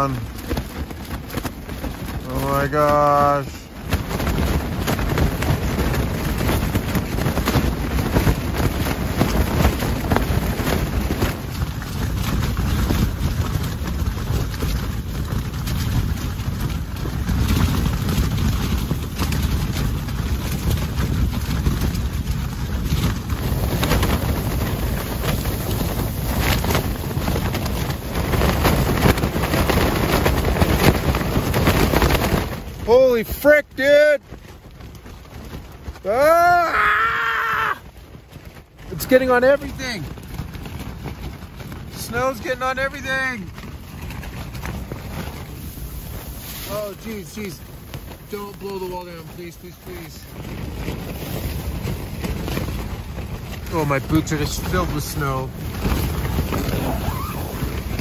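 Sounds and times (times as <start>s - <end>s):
storm wind gusting: 0.0s - 58.0s
tent fabric flapping: 0.0s - 58.0s
wind rumble on microphone: 0.0s - 58.0s.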